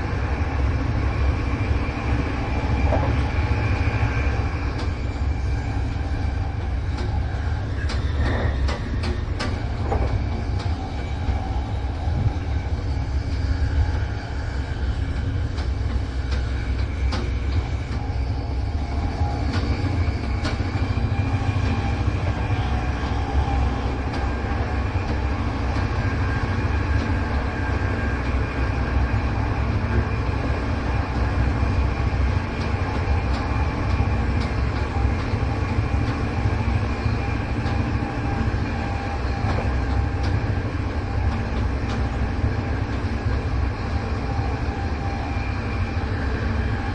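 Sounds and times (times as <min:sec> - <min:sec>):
train running gear rumbling: 0:00.0 - 0:46.9.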